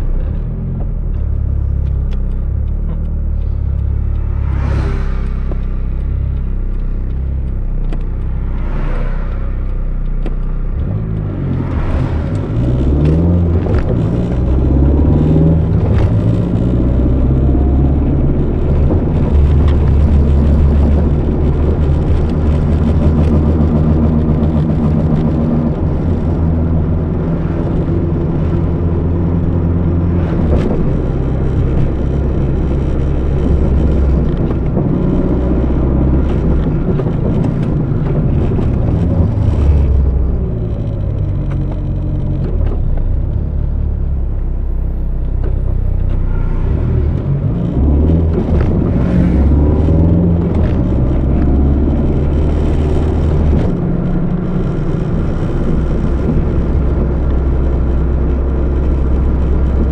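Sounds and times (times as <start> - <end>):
turbocharged car engine pulling hard: 0.0 - 59.9.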